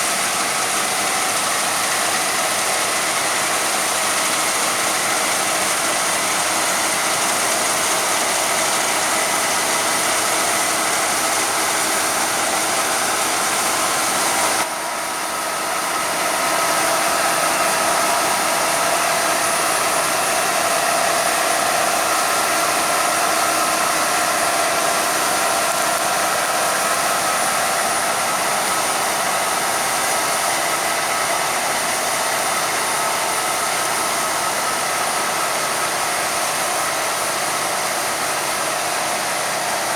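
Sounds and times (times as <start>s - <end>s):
harvest machinery whirring: 0.0s - 39.9s.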